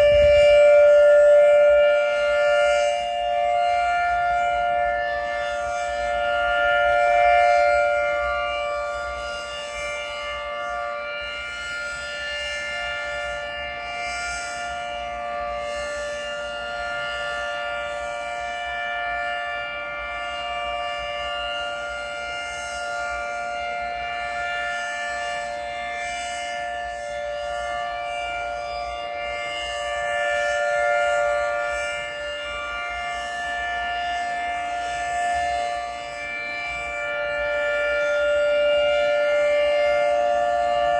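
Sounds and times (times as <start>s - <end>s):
dual-tone warning siren: 0.0s - 40.9s.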